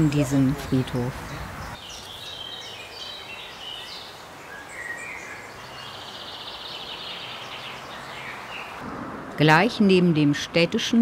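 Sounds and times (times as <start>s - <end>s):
songbirds chirping and singing: 0.0s - 8.9s
outdoor background hiss: 0.0s - 11.0s.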